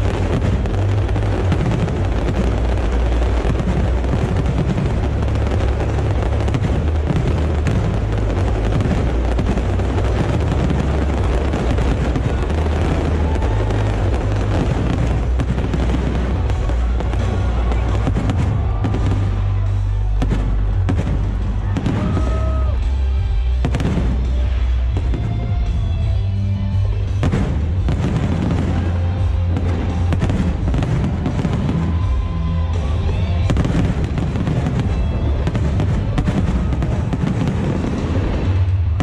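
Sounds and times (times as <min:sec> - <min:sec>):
fireworks pops and bangs: 0:00.0 - 0:39.0
loud music with heavy bass: 0:00.0 - 0:39.0.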